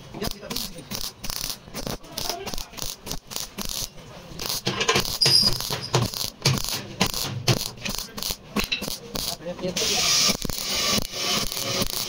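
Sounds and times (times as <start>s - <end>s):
welder arc crackling: 0.0s - 12.0s.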